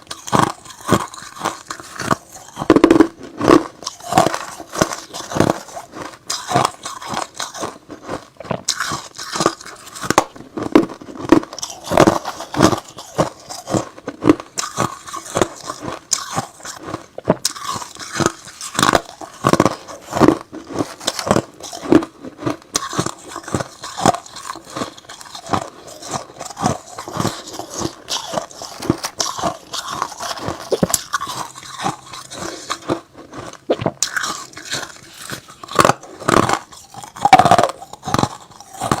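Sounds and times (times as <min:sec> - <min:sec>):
ice being chewed: 0:00.0 - 0:39.0.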